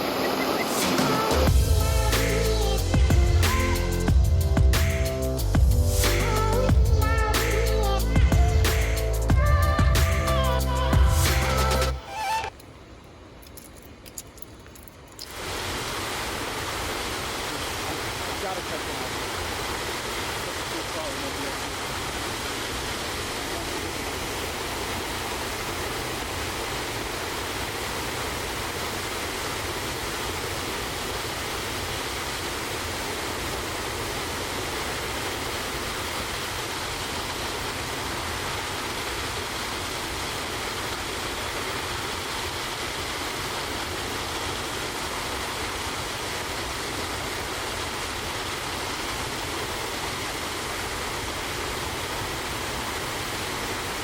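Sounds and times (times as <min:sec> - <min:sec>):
waterfall rushing: 0:00.0 - 0:12.6, 0:15.2 - 0:54.0.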